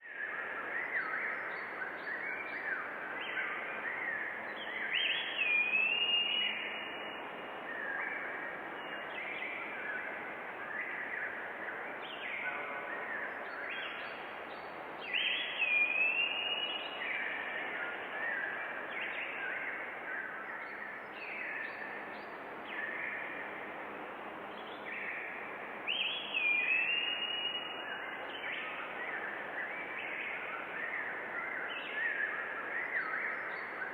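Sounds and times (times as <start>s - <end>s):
small birds chirping and whistling: 0.1s - 11.4s, 12.0s - 23.4s, 25.9s - 33.9s
background hiss: 0.1s - 33.9s.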